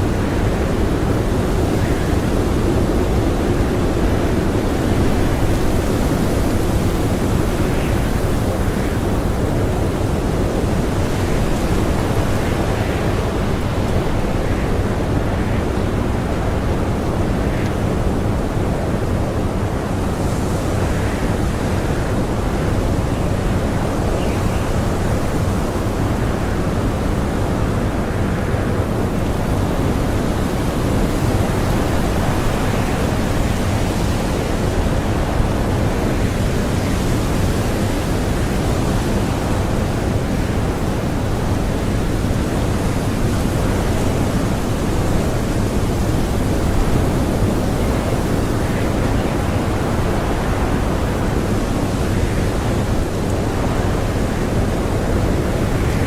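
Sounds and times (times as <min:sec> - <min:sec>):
blizzard wind blowing: 0:00.0 - 0:56.0.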